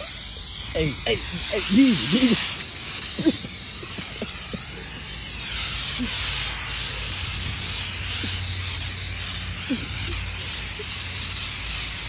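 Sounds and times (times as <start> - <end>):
spray paint can hissing: 0.0 - 12.0.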